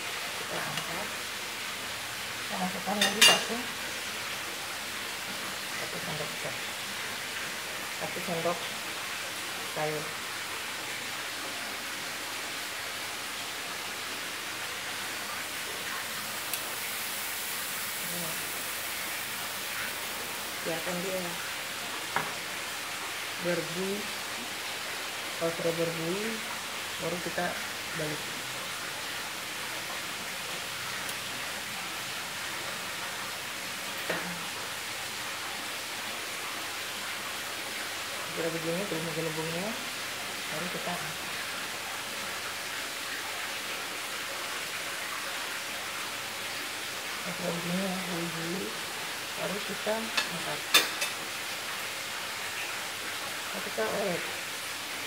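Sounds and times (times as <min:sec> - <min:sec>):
pancake batter sizzling in pan: 0:00.0 - 0:55.0.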